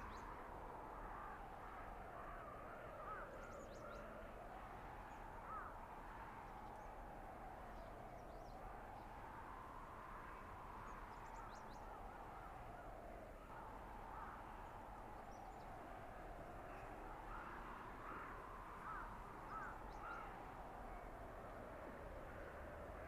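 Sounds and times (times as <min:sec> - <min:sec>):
howling blizzard wind: 0:00.0 - 0:23.0.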